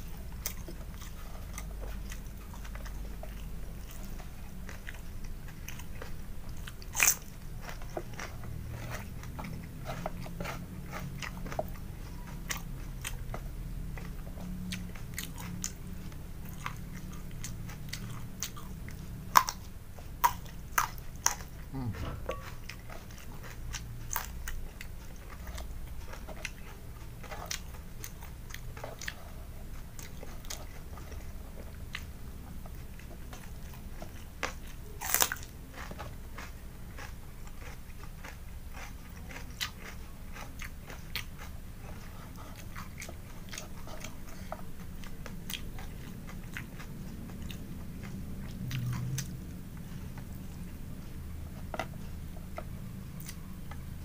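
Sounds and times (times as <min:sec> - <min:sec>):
crunching and chewing food: 0:00.0 - 0:54.0
steady low hum: 0:00.0 - 0:54.0.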